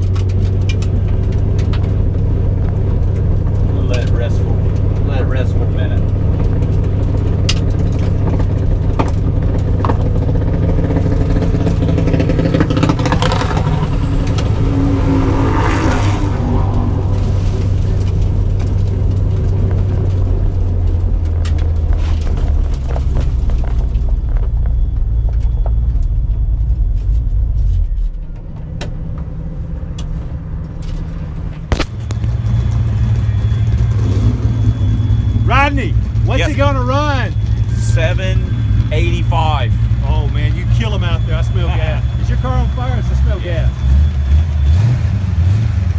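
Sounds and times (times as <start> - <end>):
car engine low rumble: 0.0 - 45.9.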